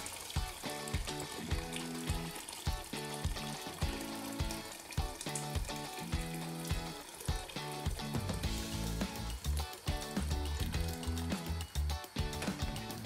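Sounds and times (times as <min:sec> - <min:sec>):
background music with steady beat: 0:00.0 - 0:13.0
beef cooking in oil: 0:00.0 - 0:13.0
water pouring into pot: 0:00.0 - 0:13.0.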